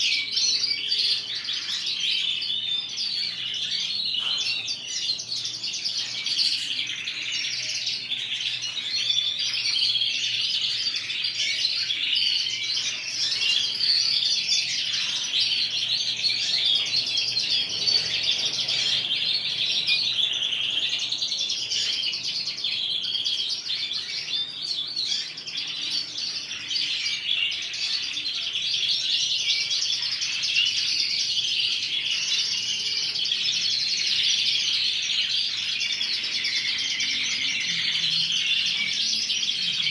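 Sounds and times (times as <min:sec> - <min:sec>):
canaries singing and chirping: 0:00.0 - 0:39.9.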